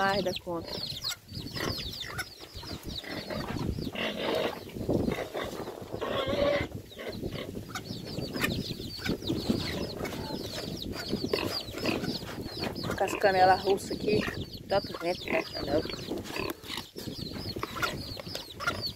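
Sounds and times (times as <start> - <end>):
chicks peeping: 0.0 - 18.9
hens clucking: 0.0 - 18.9.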